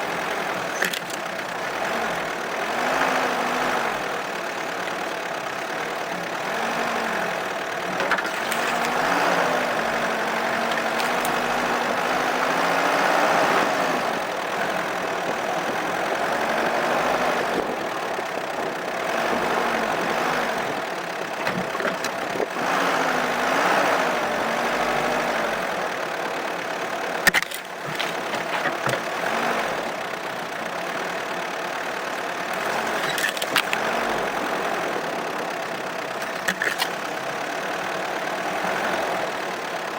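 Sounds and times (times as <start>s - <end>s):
suv engine running: 0.0s - 39.9s.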